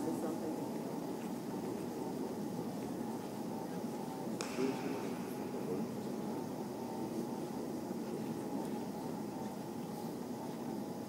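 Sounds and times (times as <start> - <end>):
echoing murmur of voices: 0.0 - 11.0.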